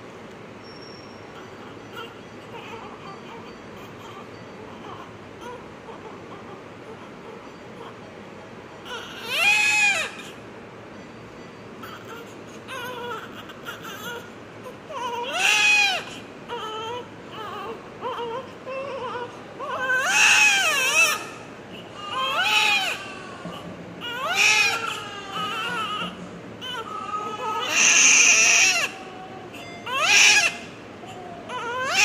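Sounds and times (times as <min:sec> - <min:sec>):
baby crying: 0:01.4 - 0:08.0, 0:08.8 - 0:10.4, 0:11.8 - 0:32.0.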